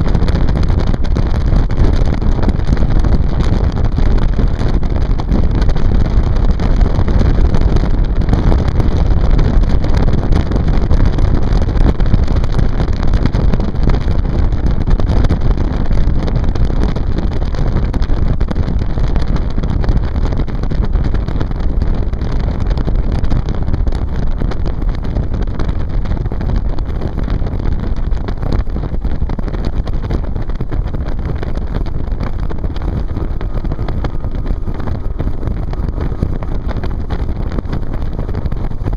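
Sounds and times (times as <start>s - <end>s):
motorboat running: 0.0s - 38.9s
wind buffeting microphone: 0.0s - 38.9s.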